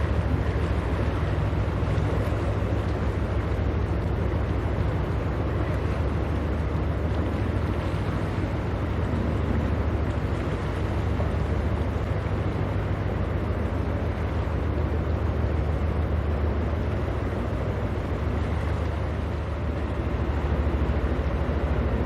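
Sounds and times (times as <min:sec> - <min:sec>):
ship engines rumbling: 0:00.0 - 0:22.0.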